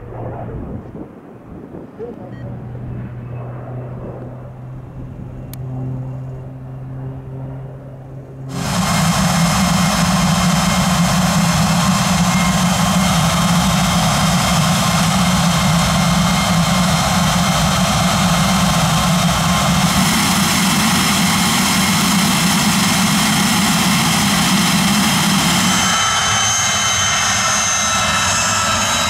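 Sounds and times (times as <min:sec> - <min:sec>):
propeller plane droning overhead: 0:00.0 - 0:29.0
jet engines whining: 0:02.2 - 0:29.0.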